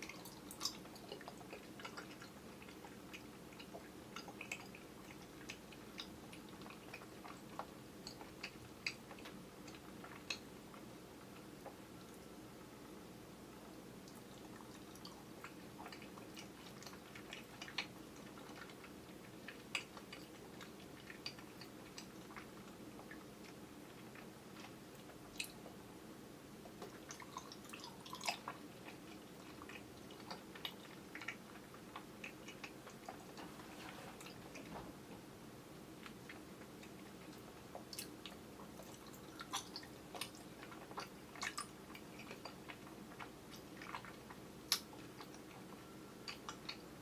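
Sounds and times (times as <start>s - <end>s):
wet chewing with mouth smacks: 0.0s - 12.3s, 13.5s - 25.9s, 26.6s - 35.2s, 36.0s - 47.0s.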